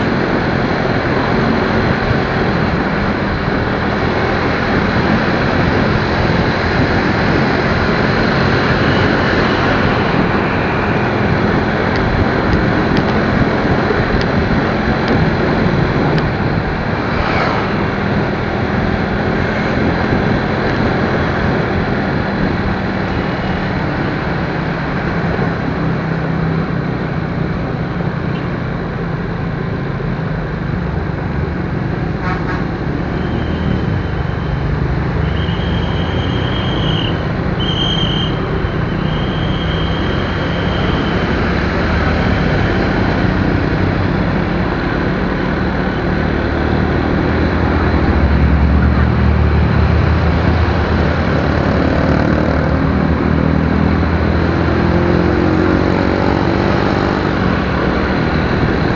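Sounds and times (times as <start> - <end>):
low engine rumble: 0.0 - 54.5
road and wind noise: 0.0 - 58.9.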